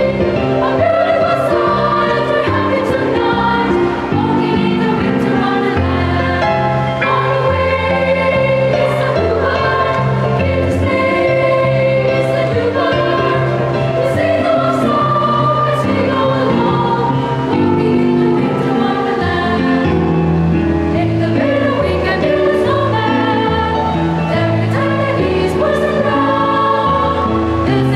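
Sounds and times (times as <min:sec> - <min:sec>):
children's choir singing: 0:00.0 - 0:27.9
instrumental accompaniment: 0:00.0 - 0:27.9.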